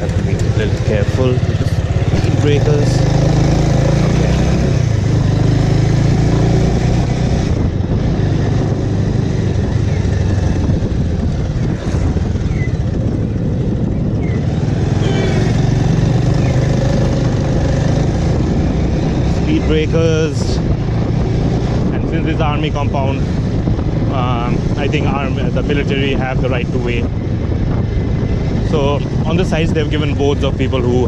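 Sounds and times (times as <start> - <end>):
motorcycle engine running: 0.0 - 31.0
rush of wind noise: 0.0 - 31.0.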